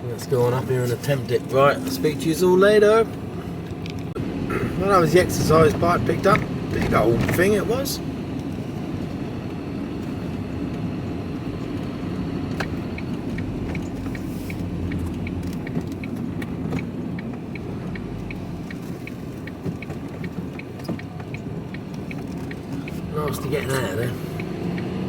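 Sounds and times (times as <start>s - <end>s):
turn signal ticking: 0.0s - 25.0s
vehicle engine running: 0.6s - 25.0s.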